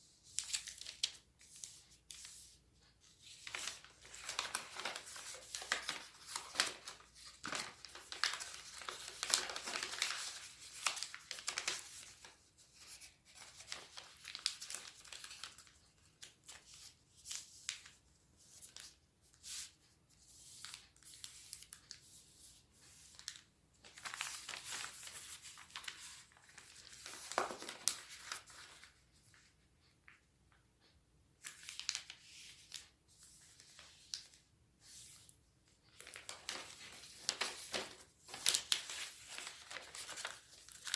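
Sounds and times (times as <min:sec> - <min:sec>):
paper being folded and crinkling: 0:00.0 - 0:30.2, 0:30.8 - 0:40.9.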